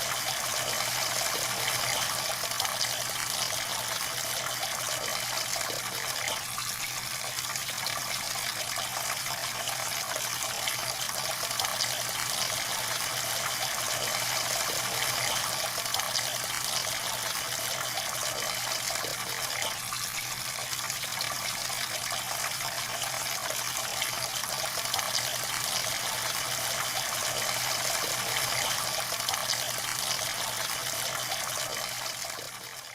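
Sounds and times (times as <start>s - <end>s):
water pouring and splashing: 0.0s - 32.9s.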